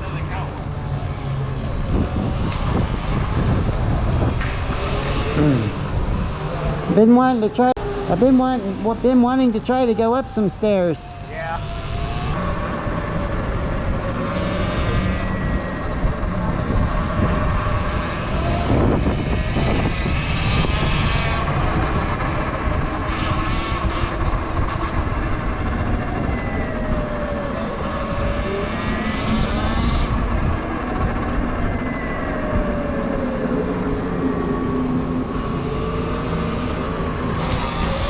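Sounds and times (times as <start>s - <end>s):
wind rumble on microphone: 0.0s - 38.0s.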